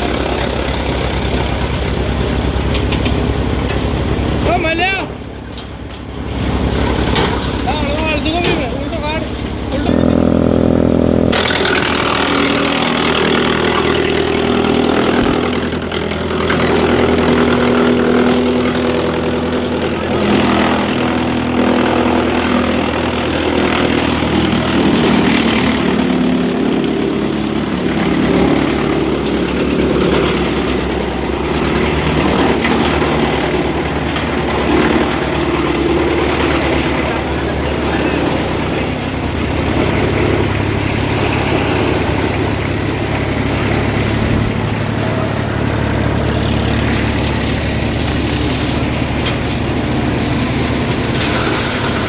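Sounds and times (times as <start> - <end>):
wood chipper running: 0.0 - 52.0.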